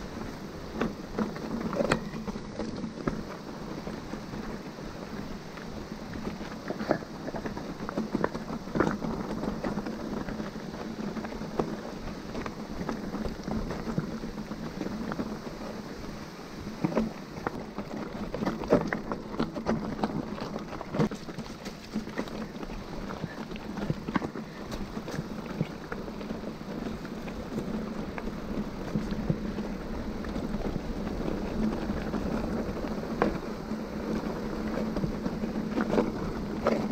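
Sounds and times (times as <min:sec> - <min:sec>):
bike tyres on dirt and stones: 0:00.0 - 0:36.9
bike knocks and rattles: 0:00.7 - 0:05.1, 0:05.9 - 0:15.8, 0:16.7 - 0:36.9.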